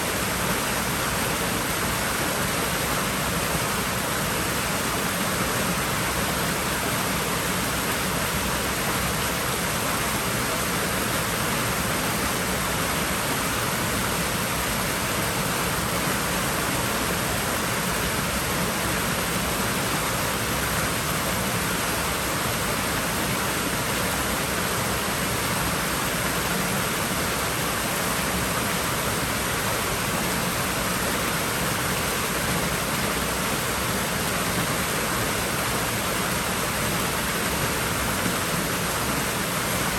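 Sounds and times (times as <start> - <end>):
water rushing in pool: 0.0 - 39.9.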